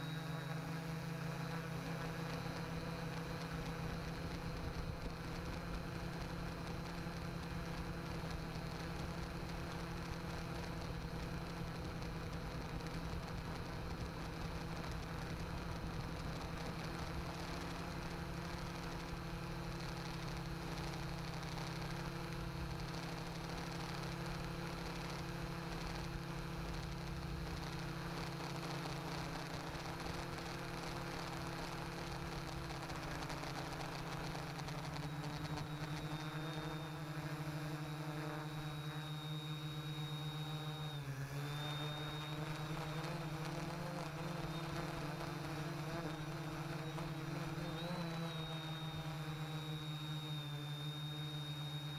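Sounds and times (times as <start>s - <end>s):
drone motors buzzing: 0.0s - 51.9s.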